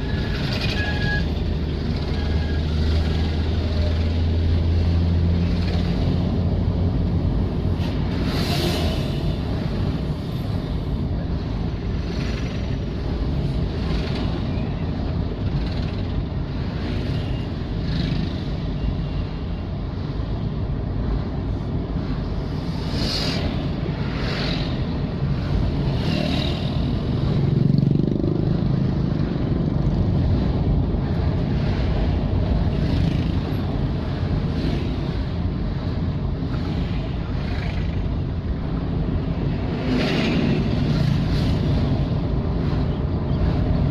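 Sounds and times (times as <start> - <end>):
car and motorcycle engines: 0.0 - 43.9.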